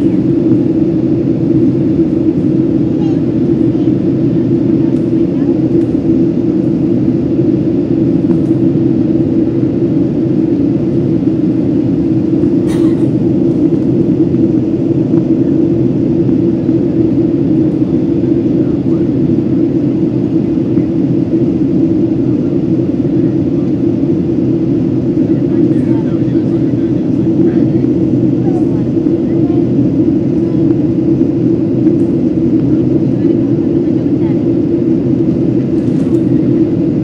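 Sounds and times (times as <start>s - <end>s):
airplane cabin drone: 0.0s - 37.0s.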